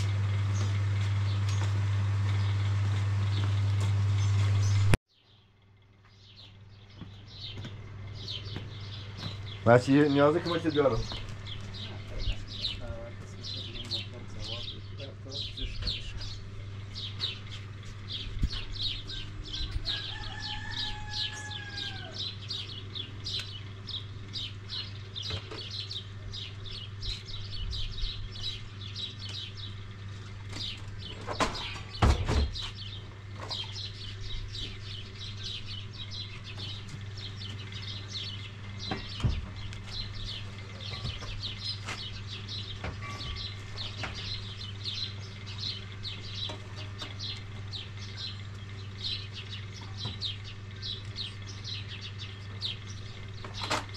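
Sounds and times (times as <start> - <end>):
small birds chirping: 0.0 - 53.9
steady low hum: 0.0 - 53.9.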